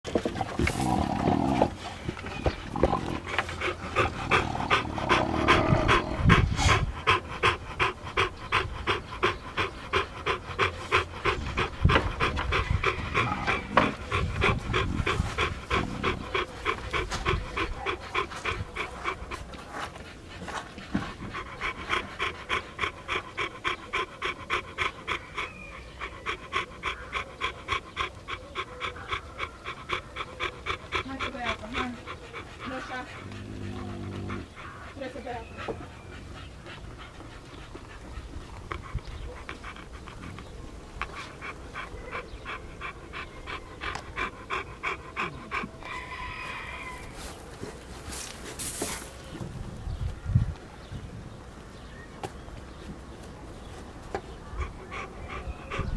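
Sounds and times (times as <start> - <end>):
dog panting rapidly: 1.7 - 49.3, 54.1 - 55.9.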